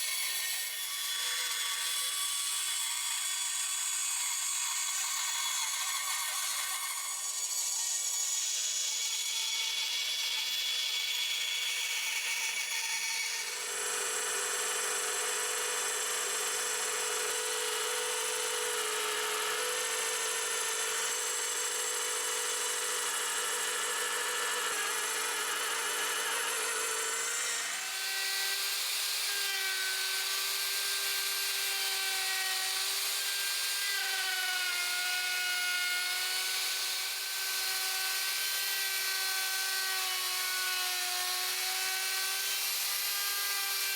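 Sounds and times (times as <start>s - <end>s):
power tool whining on wood: 0.0s - 43.9s.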